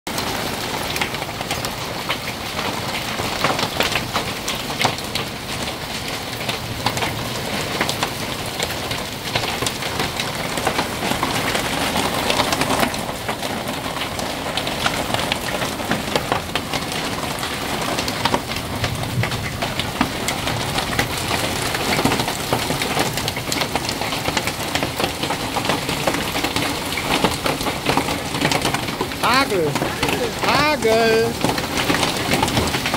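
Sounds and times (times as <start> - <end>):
heavy rain on paving and puddles: 0.1 - 32.9.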